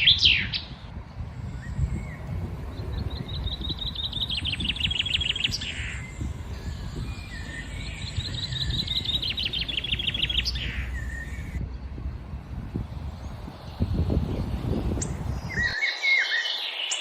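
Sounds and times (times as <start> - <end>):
low background rumble: 0.0 - 15.7
soft bird calls: 0.0 - 17.0
songbird trilling: 0.0 - 17.0.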